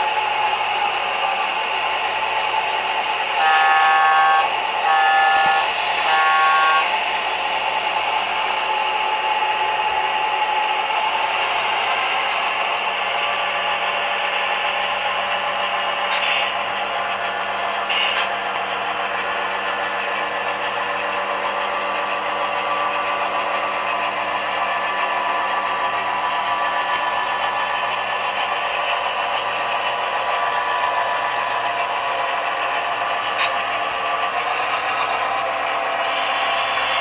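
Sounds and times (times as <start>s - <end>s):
model train diesel engine sound: 0.0s - 37.0s
wheels rattling over track: 6.9s - 37.0s.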